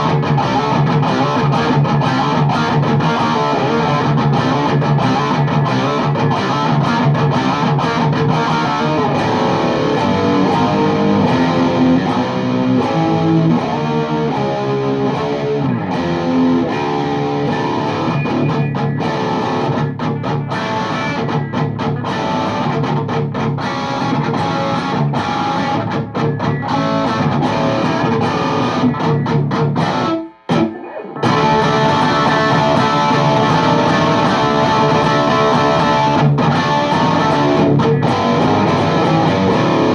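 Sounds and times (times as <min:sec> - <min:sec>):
distorted electric guitar riffing: 0:00.0 - 0:39.9.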